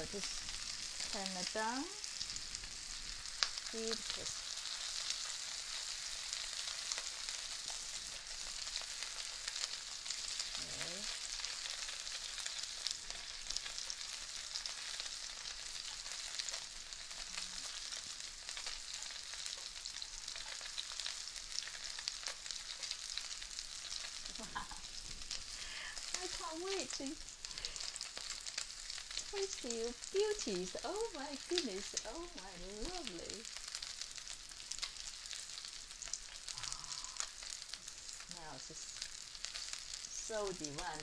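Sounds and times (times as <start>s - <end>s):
prawns sizzling in oil: 0.0s - 41.0s.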